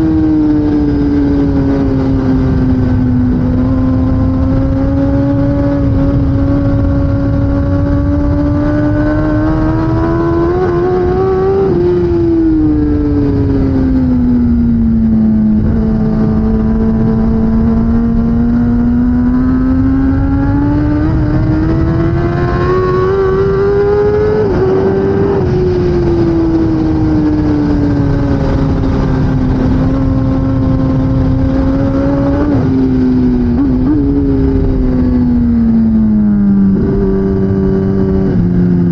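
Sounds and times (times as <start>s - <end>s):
motorcycle engine revving hard: 0.0s - 38.9s.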